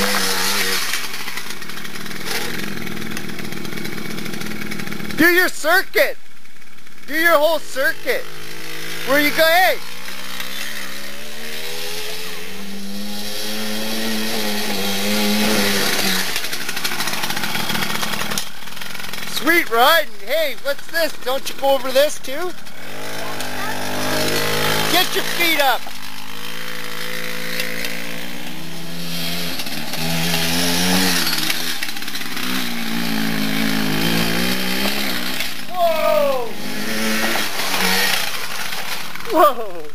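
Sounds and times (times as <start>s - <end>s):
dirt bike two-stroke engine: 0.0s - 39.9s.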